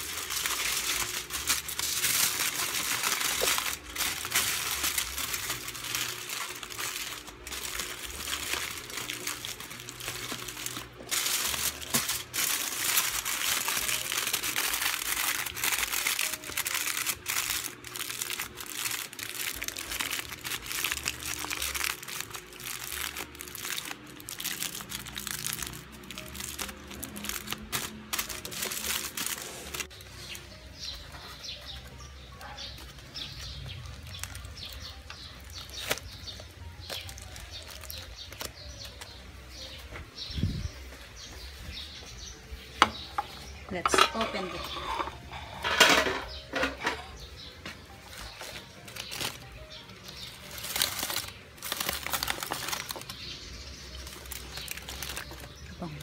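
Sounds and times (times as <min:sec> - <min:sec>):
aluminium foil crinkling: 0:00.0 - 0:40.6, 0:42.9 - 0:56.0.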